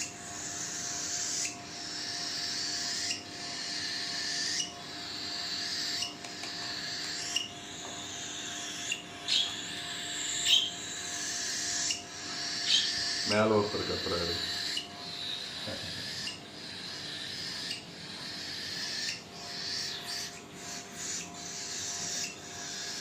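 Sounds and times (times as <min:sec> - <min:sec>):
cockatiel chick begging calls: 0:00.3 - 0:23.0.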